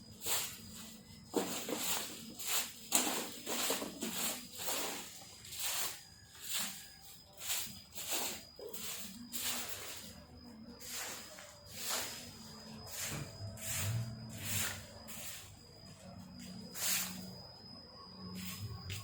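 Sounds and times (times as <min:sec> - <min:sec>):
broom sweeping leaves: 0:00.0 - 0:17.7, 0:18.3 - 0:19.0.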